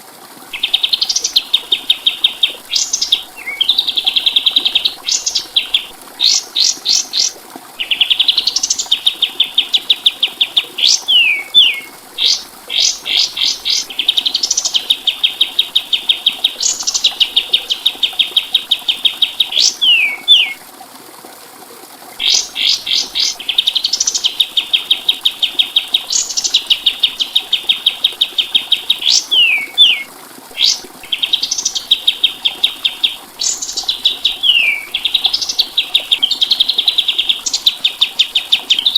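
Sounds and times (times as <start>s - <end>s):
songbird singing with trills: 0.6s - 20.6s, 22.2s - 38.9s.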